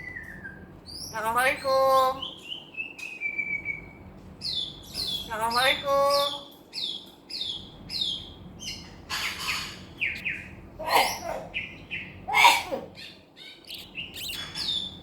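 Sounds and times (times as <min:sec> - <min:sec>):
myna bird chirping and calling: 0:00.0 - 0:15.0.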